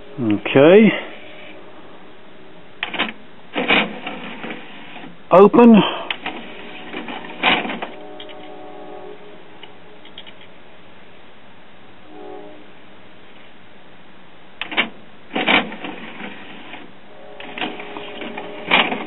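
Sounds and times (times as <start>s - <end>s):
low background hiss: 0.0s - 19.0s.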